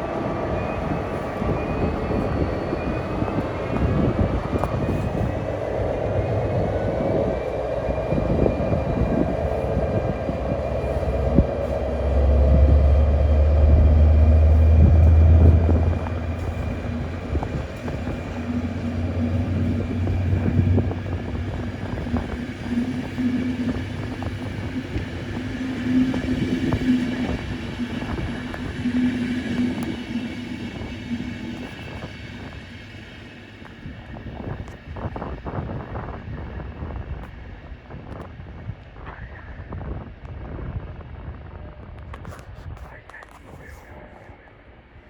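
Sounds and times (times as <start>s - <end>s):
locomotive engine drone: 0.0s - 38.2s
train wheels clicking on rails: 0.0s - 39.2s.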